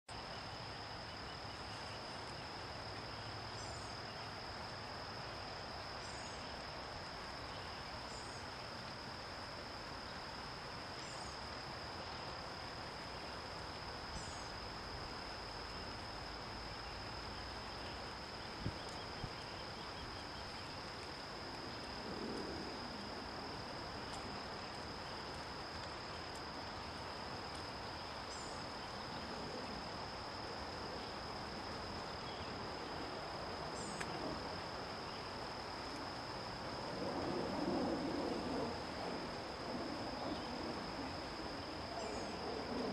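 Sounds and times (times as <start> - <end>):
background hiss: 0.1 - 42.9
high-pitched insect drone: 0.2 - 42.9.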